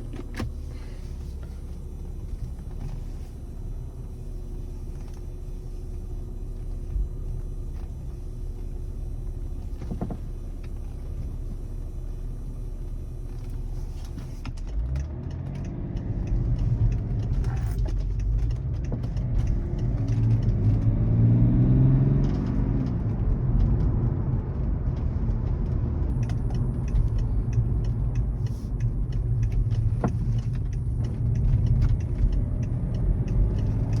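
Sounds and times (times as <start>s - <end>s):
car engine rumbling: 0.0s - 34.0s.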